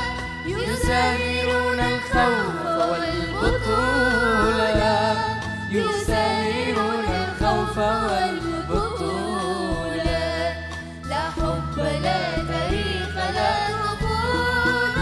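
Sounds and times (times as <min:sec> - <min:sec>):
band accompaniment: 0:00.0 - 0:15.0
children singing into microphones: 0:00.0 - 0:15.0.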